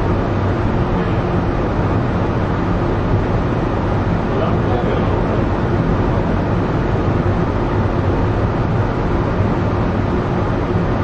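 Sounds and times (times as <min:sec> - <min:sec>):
train rumbling along guideway: 0:00.0 - 0:11.0.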